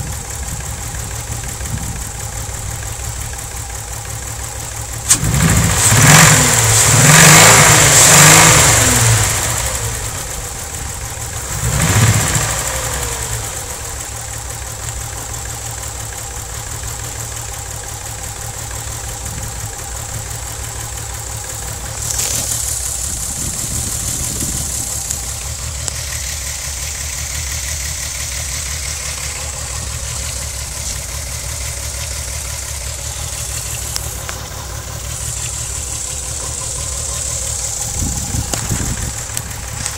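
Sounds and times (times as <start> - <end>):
engine revving and idling unevenly: 0.0 - 39.9.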